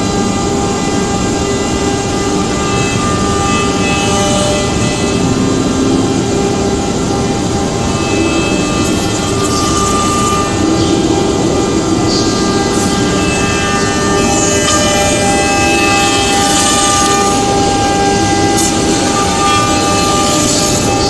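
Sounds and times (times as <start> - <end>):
cnc router spindle cutting: 0.0 - 21.0
high whining tones: 0.0 - 21.0.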